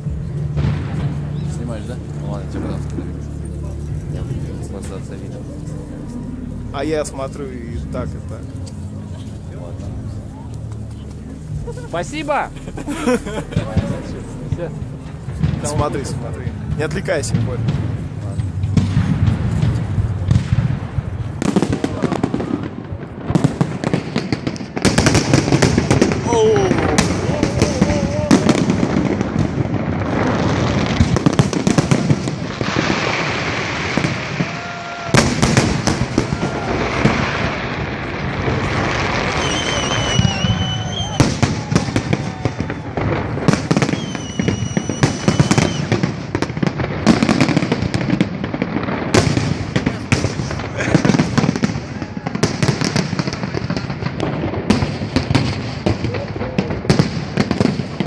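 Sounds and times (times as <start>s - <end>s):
fireworks bangs: 0.0s - 58.0s
fireworks crackling: 0.0s - 58.0s
fireworks whistling: 0.0s - 58.0s.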